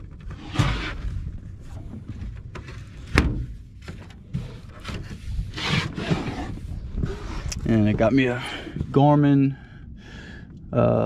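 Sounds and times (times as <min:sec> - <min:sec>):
rubbing and bumping aboard boat: 0:00.0 - 0:09.4
rumble of wind and water: 0:00.0 - 0:11.0.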